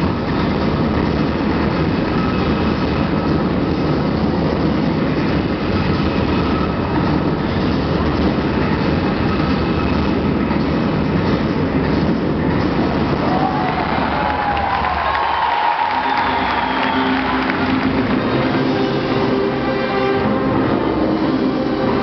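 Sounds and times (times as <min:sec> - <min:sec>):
music over public address: 0:00.0 - 0:22.0
crowd noise: 0:01.5 - 0:22.0.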